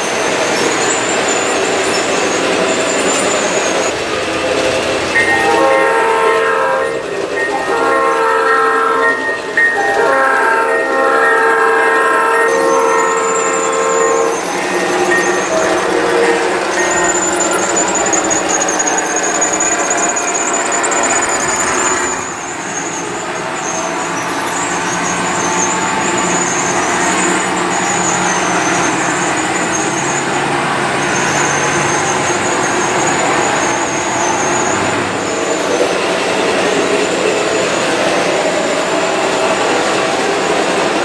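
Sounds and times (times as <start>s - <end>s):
model train wheels squealing: 0.0s - 5.9s, 12.4s - 40.9s.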